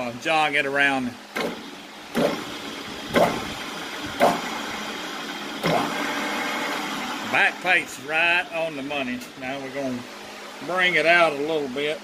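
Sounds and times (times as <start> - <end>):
lathe motor starting and humming: 1.3 - 12.0.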